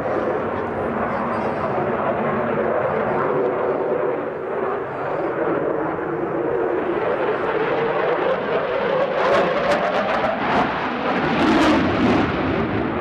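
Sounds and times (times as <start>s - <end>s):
jet fighter flying past: 0.0s - 13.0s.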